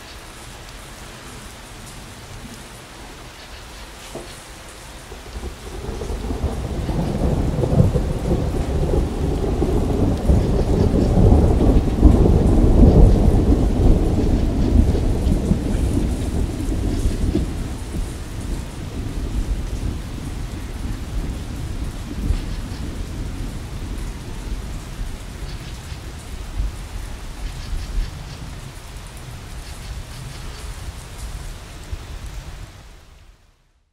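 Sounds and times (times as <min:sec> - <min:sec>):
steady rain: 0:00.0 - 0:33.9
rolling thunder rumble: 0:05.1 - 0:32.6.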